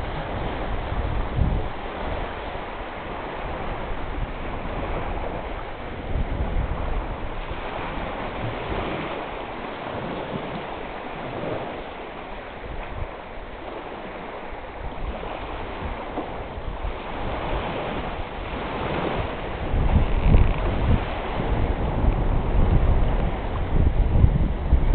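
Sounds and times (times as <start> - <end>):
waves splashing: 0.0 - 24.9
wind buffeting microphone: 0.0 - 24.9.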